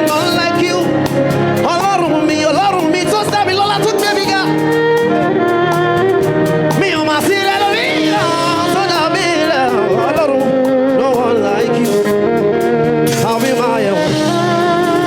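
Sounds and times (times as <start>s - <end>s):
band playing chords: 0.0s - 15.0s
steady drum beat: 0.0s - 15.0s
voices singing gospel: 0.0s - 15.0s.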